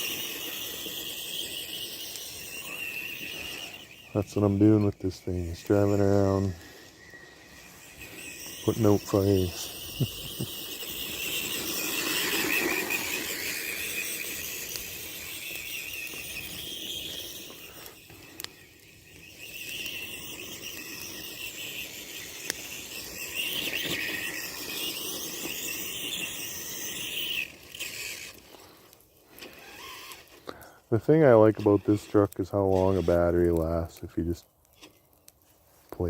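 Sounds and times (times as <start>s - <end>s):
toy truck motors whining: 0.0s - 35.3s.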